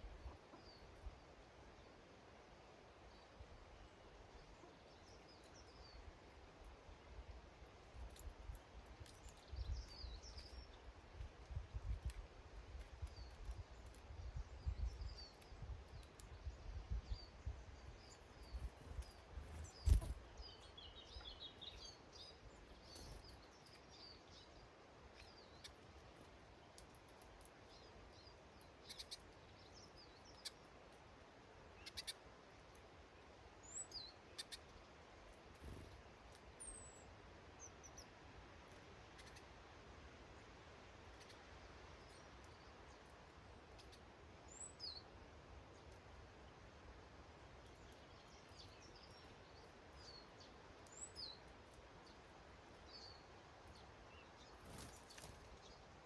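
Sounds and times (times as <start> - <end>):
small birds chirping: 0.0 - 2.0, 3.1 - 39.6, 40.4 - 46.6, 47.4 - 56.0.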